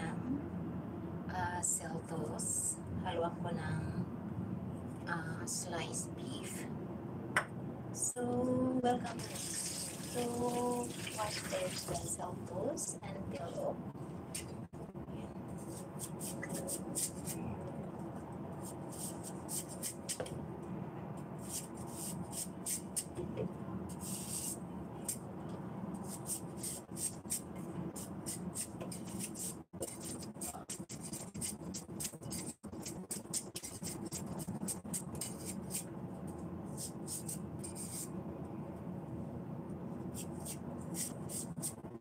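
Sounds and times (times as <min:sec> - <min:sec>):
steady low hum: 0:00.0 - 0:09.1, 0:12.0 - 0:42.0.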